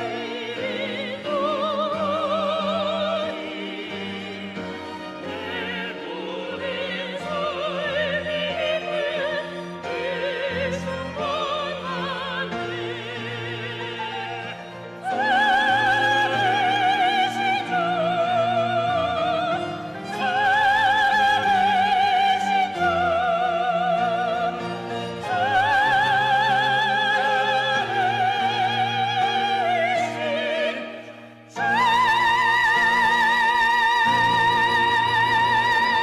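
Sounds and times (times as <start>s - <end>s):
classical solo singing: 0.0s - 36.0s
string ensemble: 0.0s - 36.0s.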